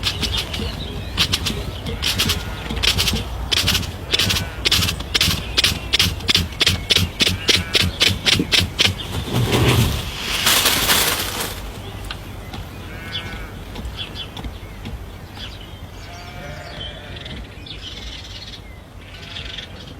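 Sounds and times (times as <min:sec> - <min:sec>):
loud rustling flapping noise: 0:00.0 - 0:16.4.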